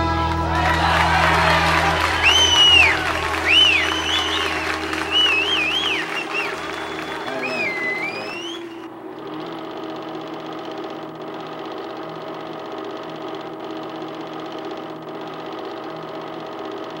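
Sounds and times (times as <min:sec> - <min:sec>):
projector hum: 0:00.0 - 0:17.0
film projector clattering: 0:01.9 - 0:17.0.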